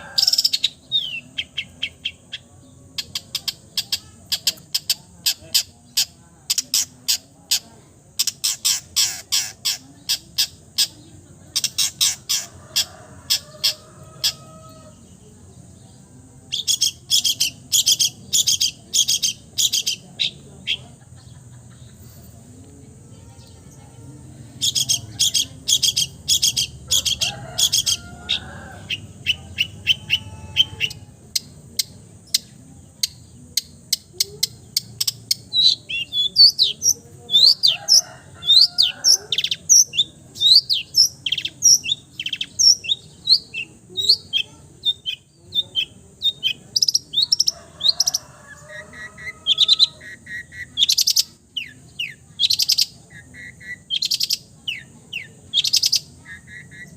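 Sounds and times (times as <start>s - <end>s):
bird singing mimicking song: 0.0s - 23.8s, 24.4s - 56.9s.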